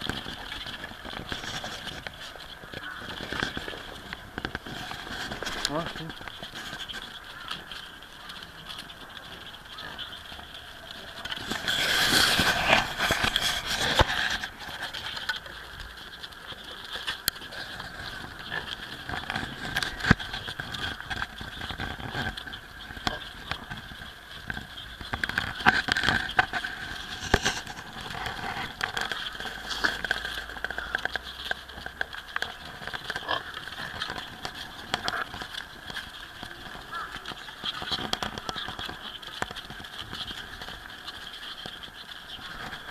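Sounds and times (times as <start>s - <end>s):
hooves clicking on paving stones: 0.0s - 42.9s
piglets scuffling: 0.0s - 42.9s.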